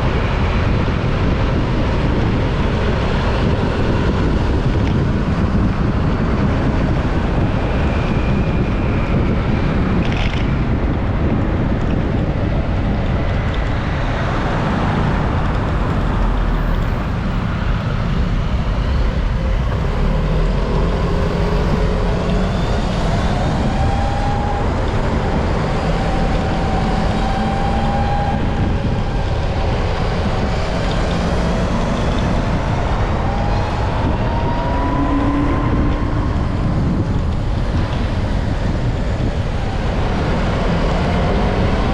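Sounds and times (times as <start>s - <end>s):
road and traffic noise: 0.0s - 41.9s
wind buffeting microphone: 0.0s - 41.9s.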